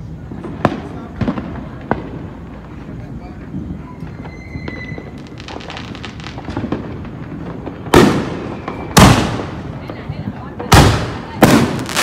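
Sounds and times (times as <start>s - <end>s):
fireworks booms: 0.0s - 12.0s
fireworks pops and crackles: 0.0s - 12.0s.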